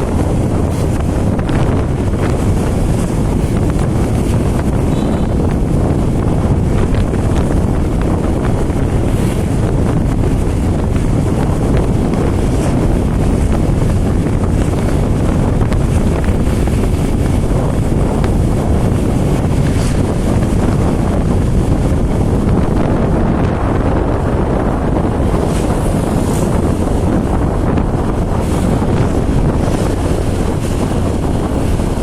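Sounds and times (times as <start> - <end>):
low drone of vehicle travel: 0.0 - 32.0
wind buffeting microphone: 0.0 - 32.0.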